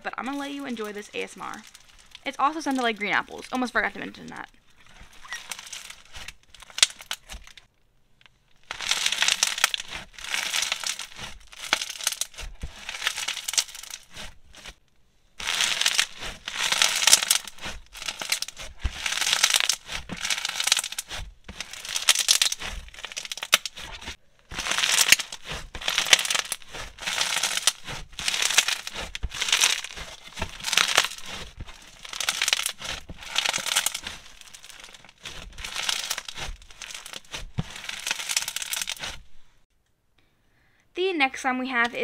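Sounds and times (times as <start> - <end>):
crunchy bead slime crackling: 0.0 - 7.7, 8.3 - 14.8, 15.4 - 39.6.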